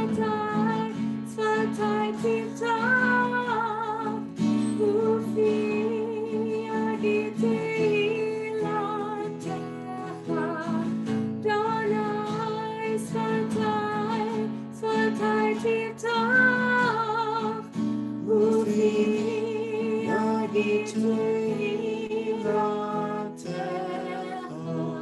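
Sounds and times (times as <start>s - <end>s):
woman and man singing: 0.0s - 25.0s.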